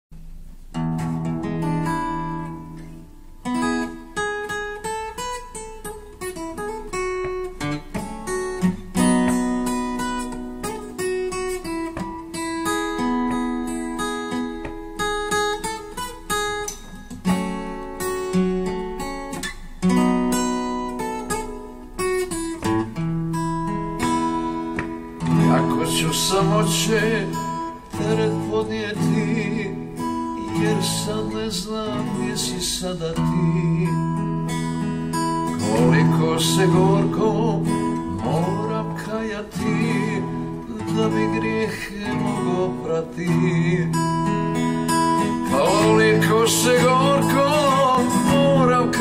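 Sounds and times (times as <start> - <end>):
acoustic guitar: 0.1 - 49.0.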